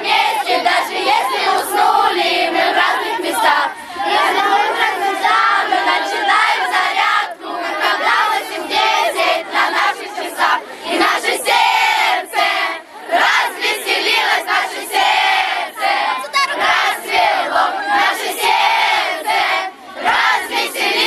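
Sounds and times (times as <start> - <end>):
children shouting and chanting: 0.0 - 21.0.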